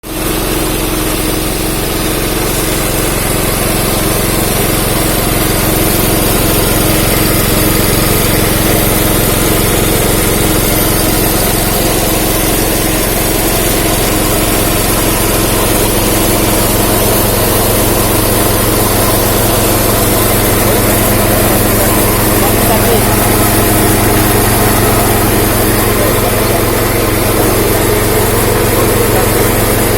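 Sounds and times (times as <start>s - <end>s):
rice milling machine drone: 0.0s - 29.9s.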